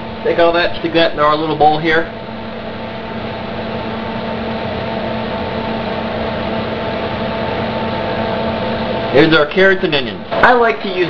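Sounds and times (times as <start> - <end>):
range hood fan running: 0.0 - 11.0.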